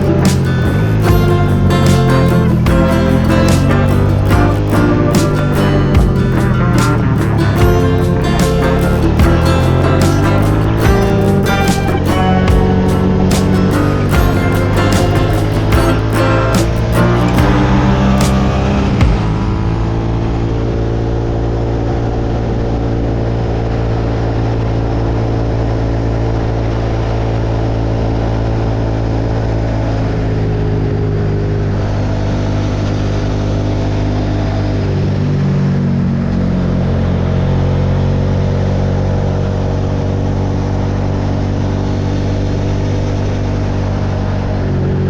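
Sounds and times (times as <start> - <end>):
motorcycle engine cruising: 0.0 - 45.0.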